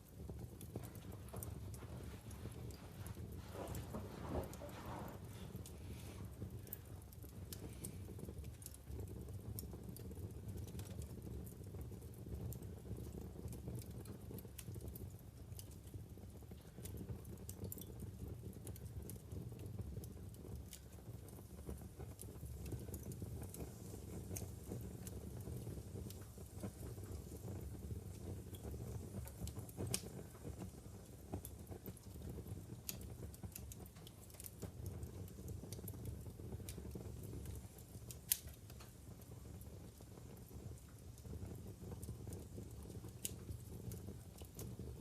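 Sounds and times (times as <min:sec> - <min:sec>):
burning logs crackling and popping: 0:00.0 - 0:45.0
low rumble of flames: 0:00.0 - 0:45.0.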